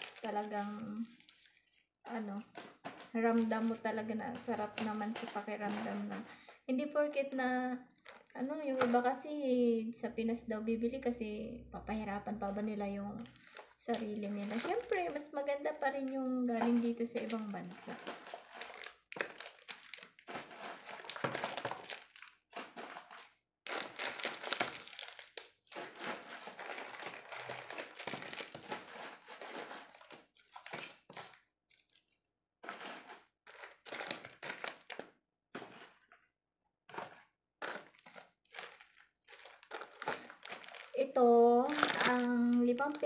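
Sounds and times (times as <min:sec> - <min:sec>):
plastic packaging crinkling: 0:00.0 - 0:06.6, 0:07.8 - 0:09.2, 0:13.2 - 0:36.2, 0:36.9 - 0:43.0.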